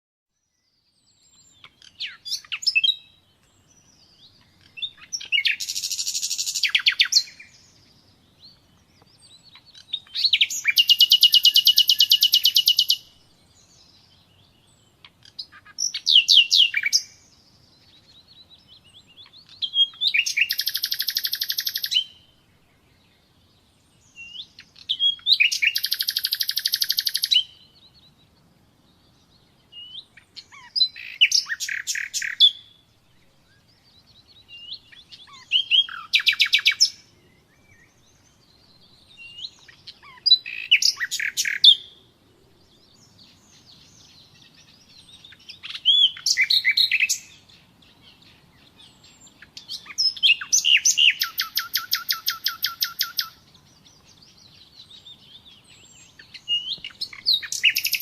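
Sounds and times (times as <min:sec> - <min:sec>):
nightingale singing: 0:00.3 - 0:58.0.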